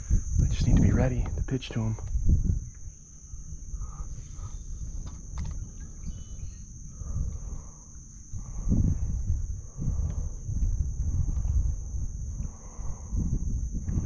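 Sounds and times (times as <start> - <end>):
high-pitched whine: 0.0 - 14.0
wind buffeting microphone: 0.0 - 14.0.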